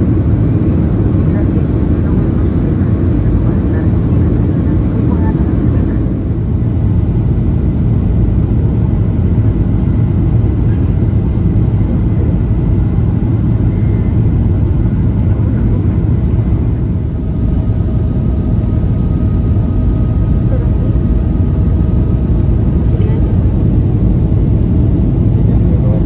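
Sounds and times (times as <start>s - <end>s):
airplane cabin low rumble: 0.0s - 26.0s
faint engine whine: 0.0s - 26.0s.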